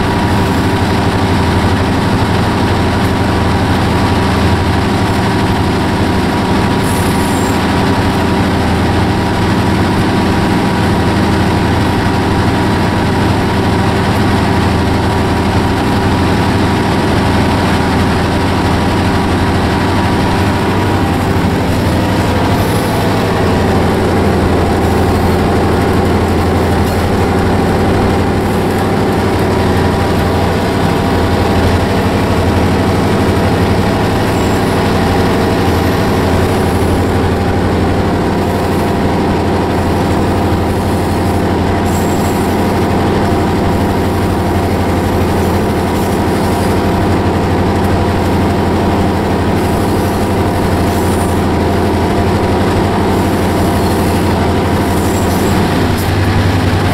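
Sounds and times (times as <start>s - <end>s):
locomotive diesel engine running: 0.0s - 56.9s.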